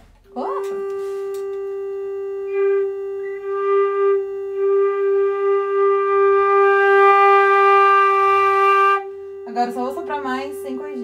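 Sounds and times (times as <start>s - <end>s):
steady tuner reference tone: 0.0s - 11.0s
flute playing: 0.3s - 11.0s.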